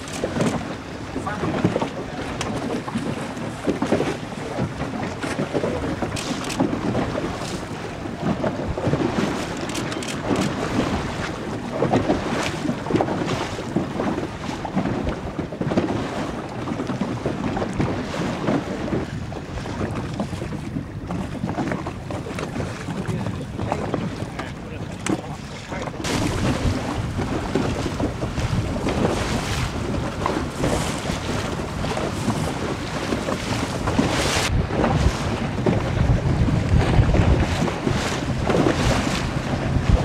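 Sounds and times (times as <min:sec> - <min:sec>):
water splashing: 0:00.0 - 0:40.0
wind buffeting microphone: 0:00.0 - 0:40.0.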